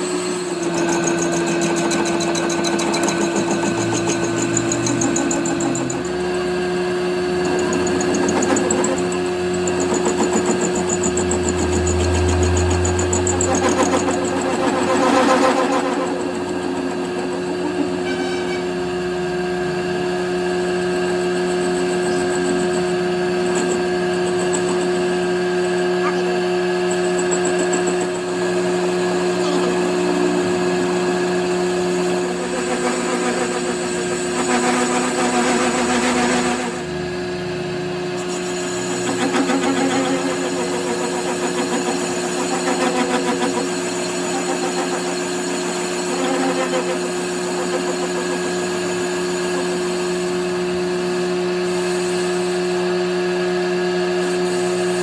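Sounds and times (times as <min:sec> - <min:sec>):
metal lathe humming: 0:00.0 - 0:55.0.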